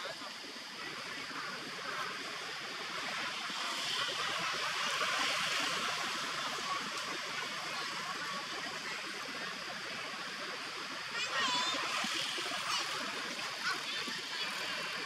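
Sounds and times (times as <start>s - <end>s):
steady outdoor background hiss: 0.0s - 15.0s.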